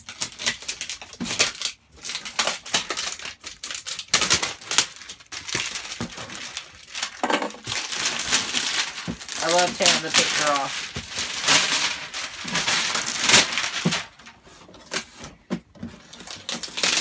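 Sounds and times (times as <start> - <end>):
plastic shrink wrap crinkling: 0.0 - 17.0.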